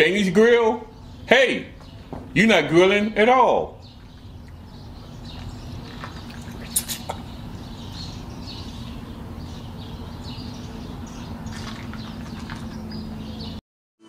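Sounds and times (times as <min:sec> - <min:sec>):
small birds chirping: 0:00.0 - 0:13.6
steady low hum: 0:00.1 - 0:13.6.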